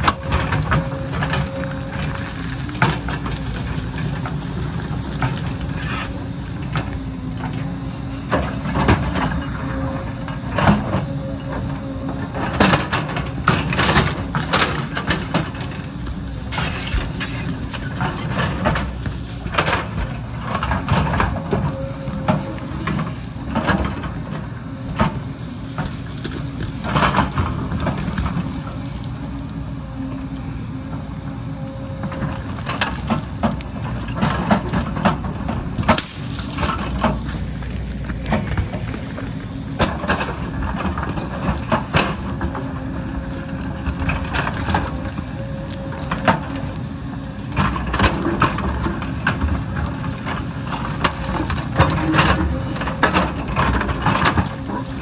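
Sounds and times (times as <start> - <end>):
diesel engine running: 0.0 - 55.0
hydraulic whine: 0.0 - 55.0.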